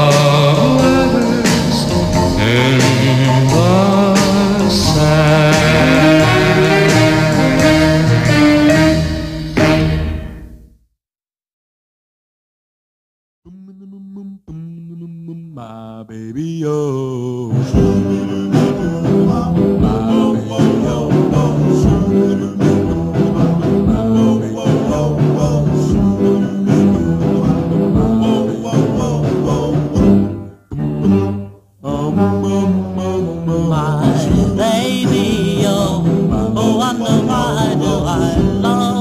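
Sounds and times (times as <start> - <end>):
background song: 0.0 - 10.7, 13.5 - 39.0.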